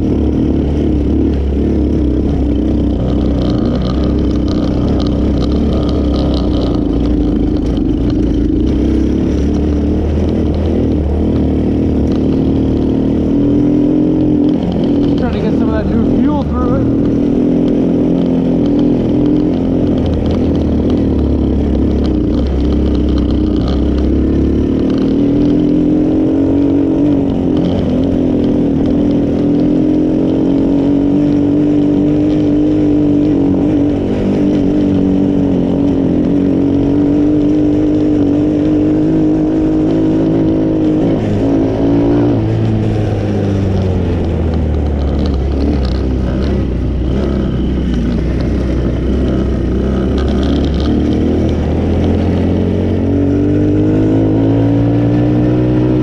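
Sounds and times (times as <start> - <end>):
small engine running under throttle: 0.0 - 56.0.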